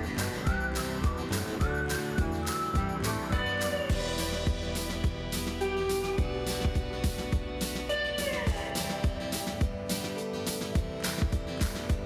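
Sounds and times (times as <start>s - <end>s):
guitar music: 0.0s - 12.0s
drum beat: 1.0s - 12.0s.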